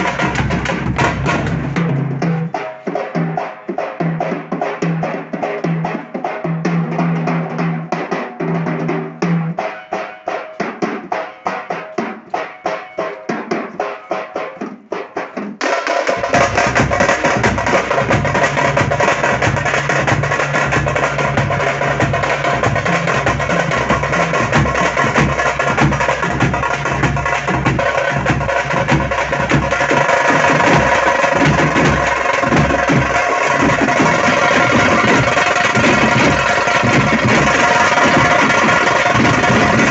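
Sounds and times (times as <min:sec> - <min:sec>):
drum group playing fast beat: 0:00.0 - 0:39.9.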